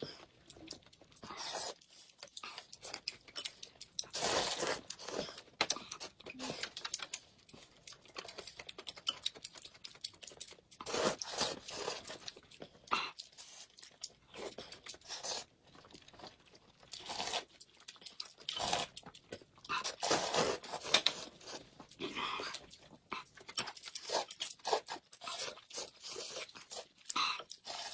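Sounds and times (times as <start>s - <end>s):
people chewing and slurping: 0.0s - 27.9s.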